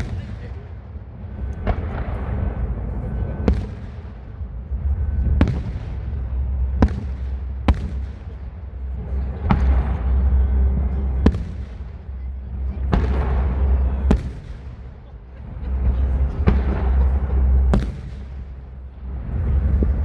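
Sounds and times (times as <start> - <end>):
low rolling echo rumble: 0.0 - 20.0.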